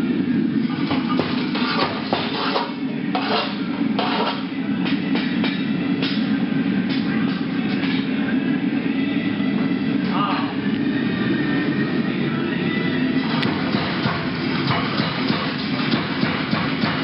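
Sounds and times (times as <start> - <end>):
machine rumble: 0.0 - 17.0.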